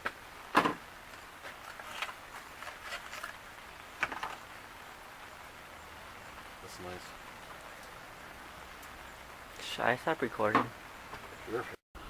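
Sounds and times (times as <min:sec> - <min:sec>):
rain pattering: 0:00.0 - 0:11.8.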